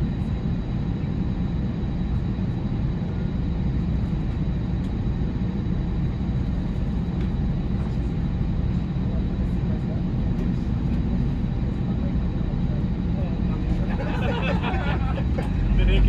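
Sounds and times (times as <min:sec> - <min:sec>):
low rumble in jet cabin: 0:00.0 - 0:16.0.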